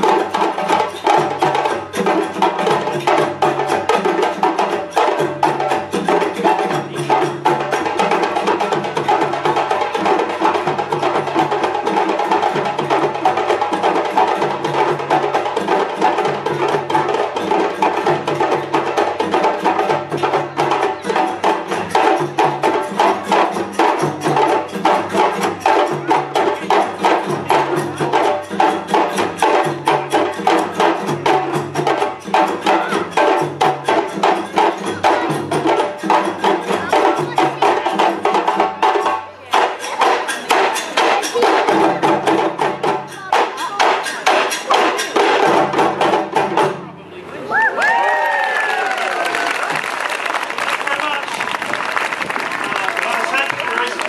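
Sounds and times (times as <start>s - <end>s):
hand drums playing fast rhythm: 0.0s - 47.1s, 49.0s - 54.0s.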